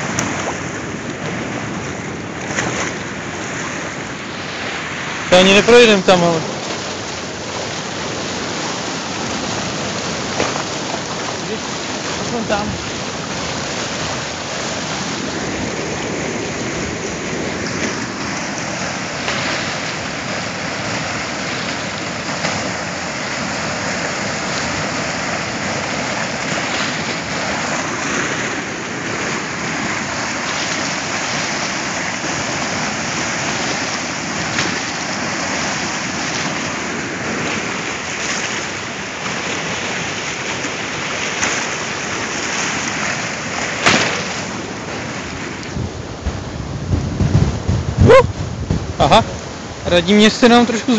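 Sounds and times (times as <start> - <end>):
river rushing through weir: 0.0 - 50.9.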